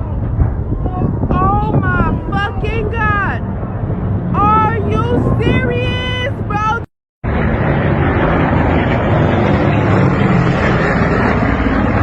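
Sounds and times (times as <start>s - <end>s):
propeller aircraft droning overhead: 0.0s - 12.0s.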